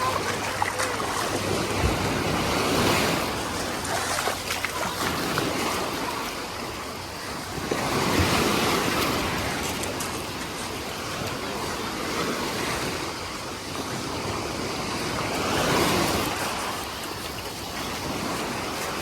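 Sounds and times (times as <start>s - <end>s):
sea waves breaking on a beach: 0.0s - 19.0s.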